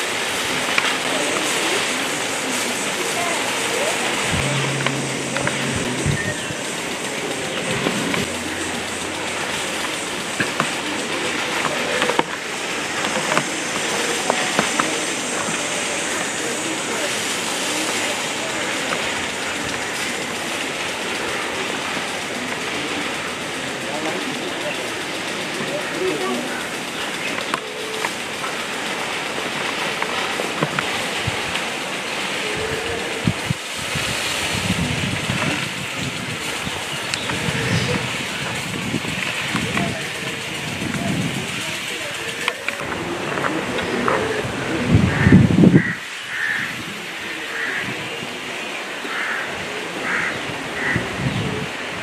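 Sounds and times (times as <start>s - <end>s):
wind noise on microphone: 0.0s - 25.7s, 28.2s - 48.5s, 49.5s - 52.0s
sharp clicks and crackles: 0.0s - 44.9s
rushing outdoor hiss: 0.0s - 52.0s.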